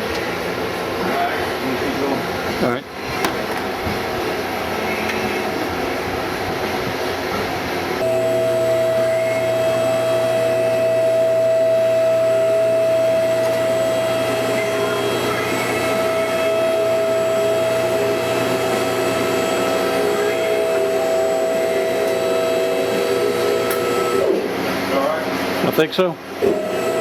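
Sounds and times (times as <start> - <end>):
car lift motor whining: 3.0 - 25.6, 26.3 - 27.0.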